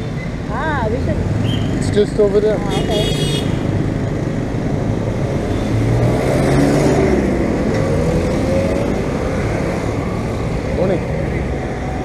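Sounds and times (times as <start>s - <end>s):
traffic rumble: 0.0s - 12.0s
vehicles passing: 0.0s - 12.0s.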